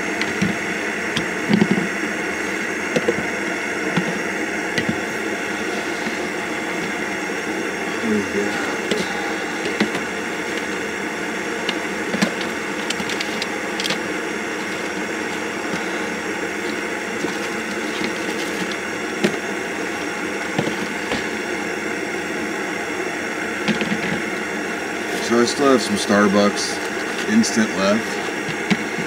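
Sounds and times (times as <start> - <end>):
gas stove burner hissing: 0.0 - 29.0.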